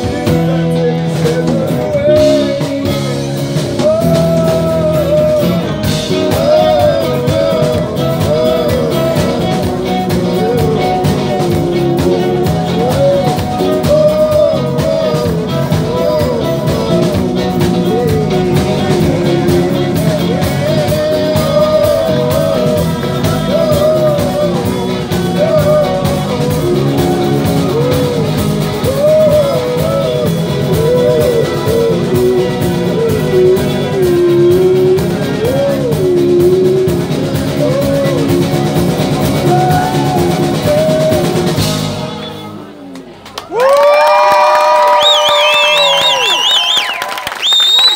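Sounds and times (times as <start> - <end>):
electric bass: 0.0 - 43.1
acoustic guitar: 0.0 - 43.2.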